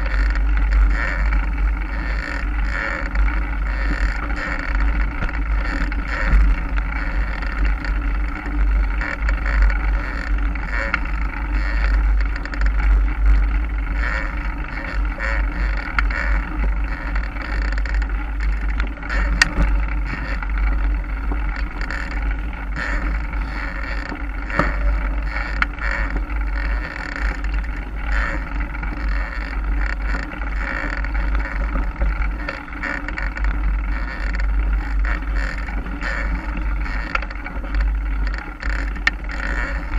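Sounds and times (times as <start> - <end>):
mountain bike riding noise: 0.0 - 39.9
wind rumble on microphone: 0.0 - 39.9.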